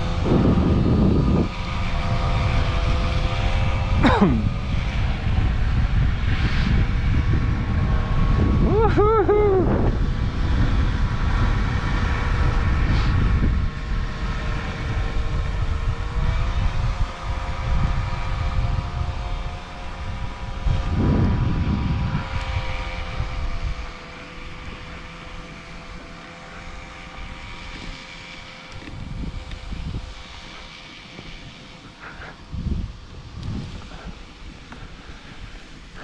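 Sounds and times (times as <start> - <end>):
engine drone: 0.0 - 36.0
wind rumbling on microphone: 0.0 - 36.0.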